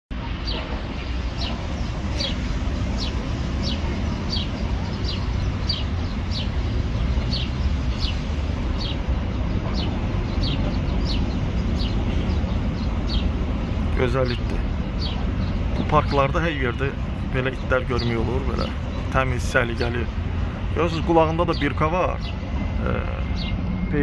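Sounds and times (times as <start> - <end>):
bird chirping: 0.3 - 24.0.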